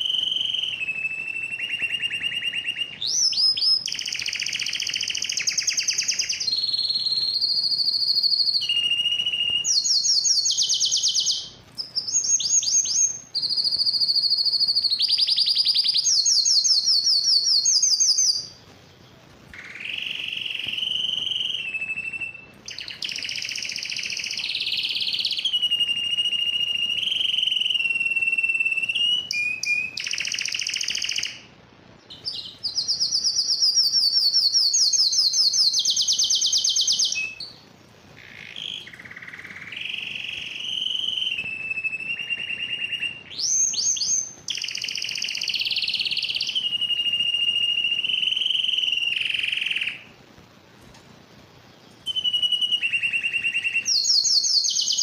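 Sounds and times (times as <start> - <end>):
canary singing trills: 0.0 - 50.2, 51.3 - 55.0.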